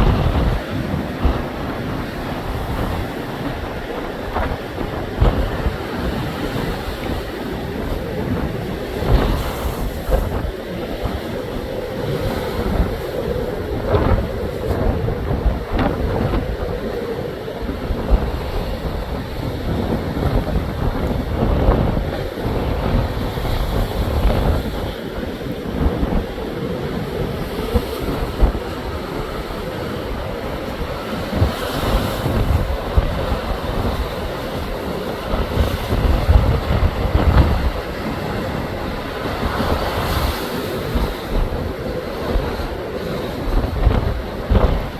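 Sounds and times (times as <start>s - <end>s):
waves breaking: 0.0s - 44.9s
wind buffeting microphone: 0.0s - 44.9s.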